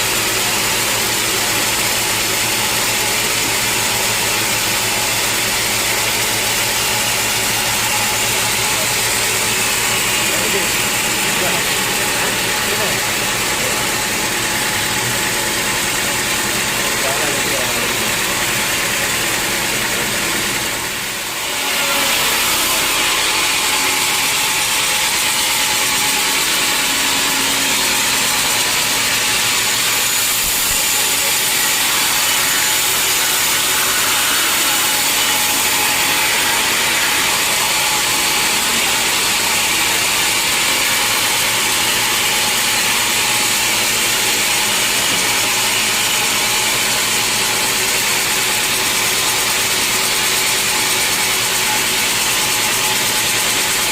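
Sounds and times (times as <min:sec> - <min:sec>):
sawmill saw cutting log: 0:00.0 - 0:53.9.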